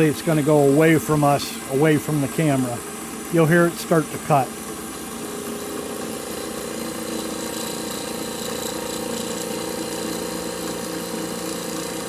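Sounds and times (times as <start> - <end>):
milling machine cutting tube: 0.0 - 12.0.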